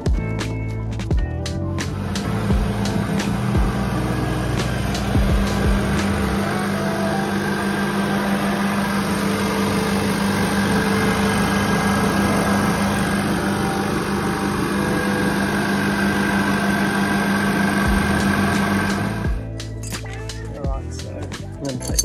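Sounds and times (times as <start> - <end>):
recovery machine humming: 1.8 - 19.7.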